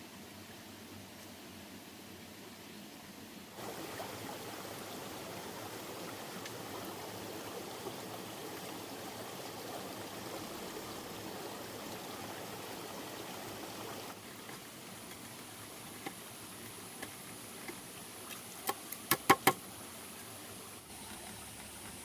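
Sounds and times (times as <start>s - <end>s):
running water: 3.4s - 22.0s.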